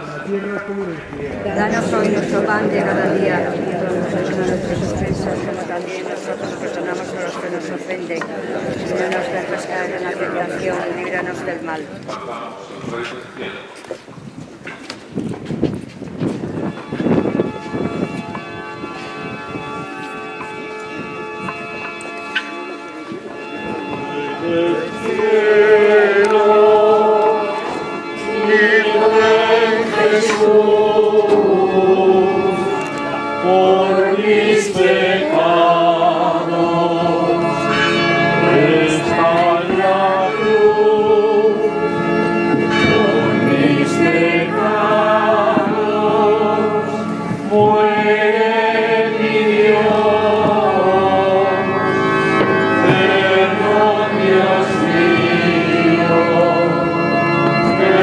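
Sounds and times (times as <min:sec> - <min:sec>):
religious singing with vibrato: 0:00.0 - 0:13.5, 0:23.6 - 0:58.0.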